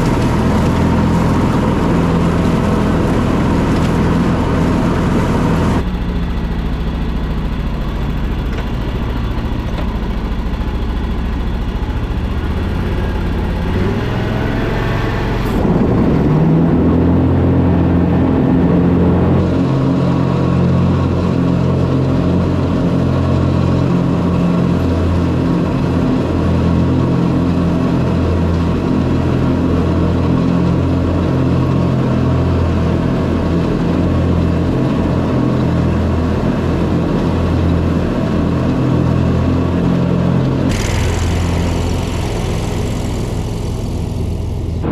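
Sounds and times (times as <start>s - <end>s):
riding mower engine running: 0.0s - 44.9s.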